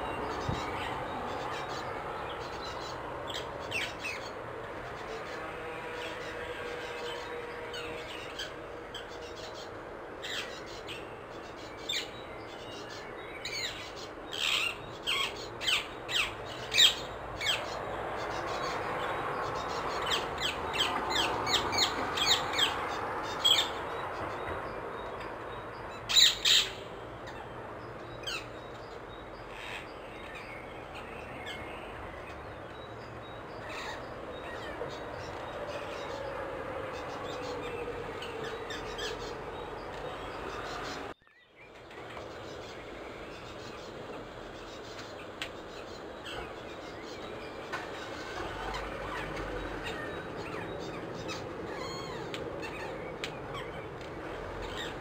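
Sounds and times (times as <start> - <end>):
steady background noise: 0.0 - 55.0.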